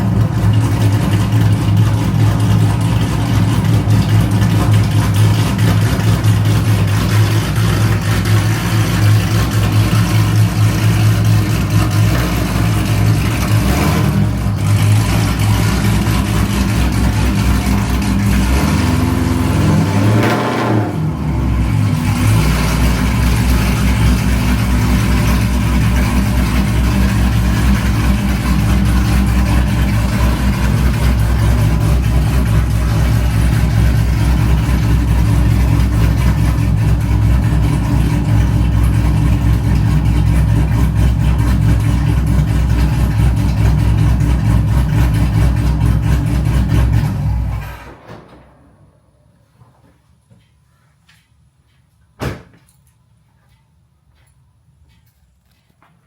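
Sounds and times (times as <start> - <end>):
car engine idling: 0.0 - 20.2, 20.8 - 49.6.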